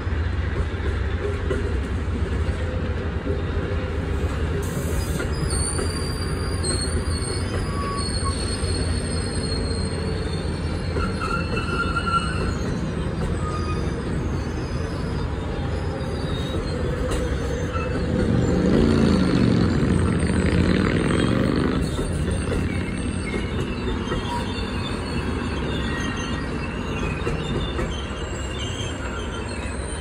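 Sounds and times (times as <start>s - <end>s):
train wheels rumbling on rails: 0.0s - 30.0s
high wheel squeals: 4.6s - 30.0s.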